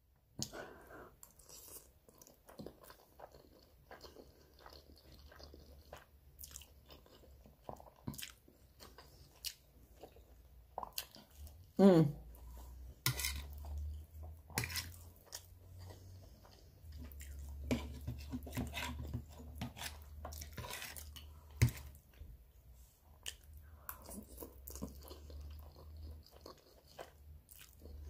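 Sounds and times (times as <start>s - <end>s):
person chewing food: 0.4s - 22.4s, 23.0s - 28.0s.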